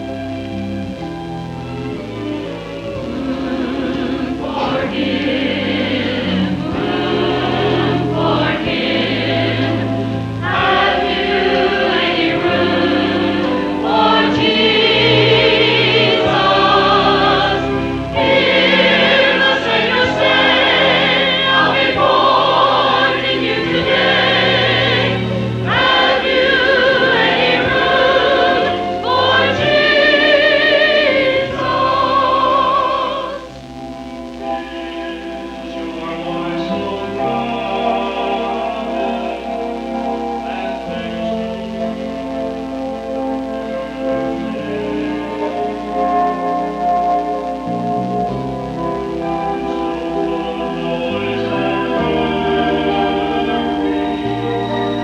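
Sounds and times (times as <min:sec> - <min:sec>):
church choir singing: 0:00.0 - 0:55.0.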